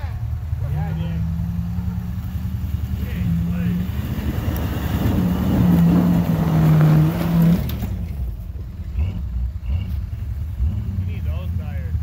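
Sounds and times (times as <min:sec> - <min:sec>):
engine pulling hard under load: 0:00.0 - 0:12.0.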